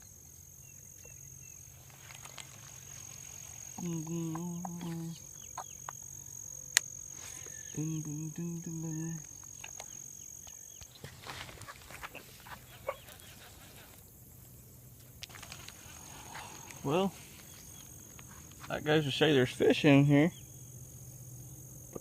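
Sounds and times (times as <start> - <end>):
insect buzzing: 0.0 - 22.0.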